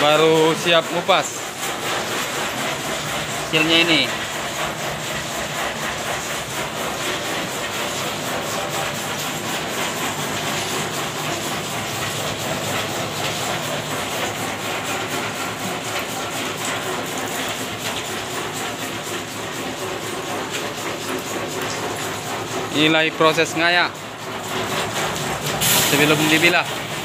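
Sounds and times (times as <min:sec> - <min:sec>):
nut-cracking machine clattering: 0:00.0 - 0:27.0.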